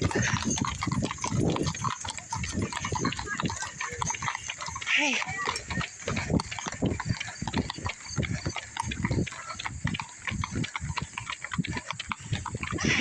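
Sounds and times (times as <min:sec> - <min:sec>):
horse hooves clopping: 0:00.0 - 0:13.0.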